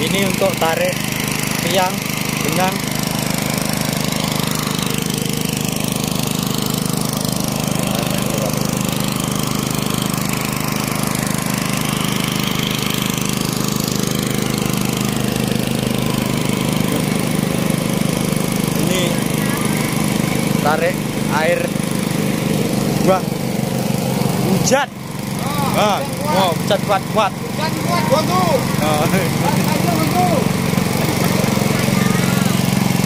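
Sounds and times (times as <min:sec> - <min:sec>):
portable water pump engine running: 0:00.0 - 0:33.0.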